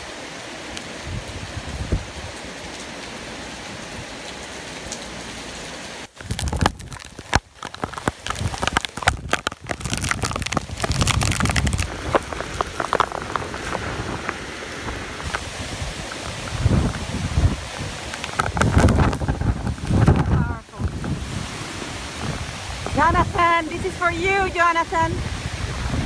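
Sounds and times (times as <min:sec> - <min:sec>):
heavy rain hissing: 0:00.0 - 0:26.0
rain spatter crackling: 0:00.6 - 0:26.0
wind gusts battering microphone: 0:01.0 - 0:02.5, 0:06.1 - 0:26.0.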